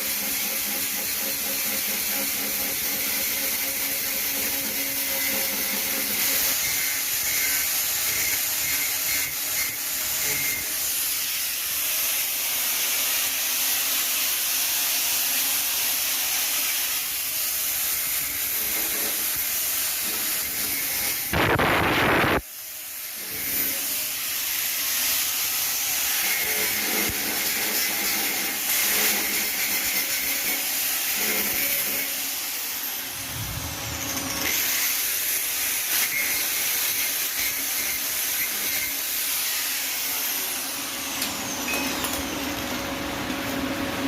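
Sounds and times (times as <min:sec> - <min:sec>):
arc welding crackling hiss: 0:00.0 - 0:43.7.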